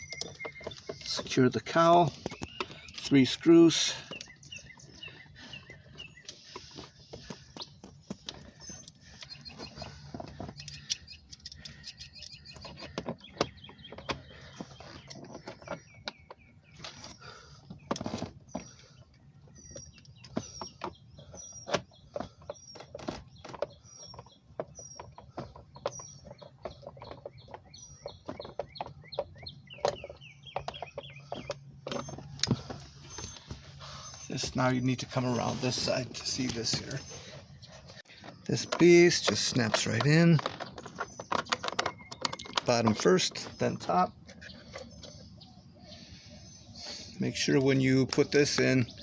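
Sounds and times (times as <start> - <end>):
bird chirping: 0.0 - 49.0.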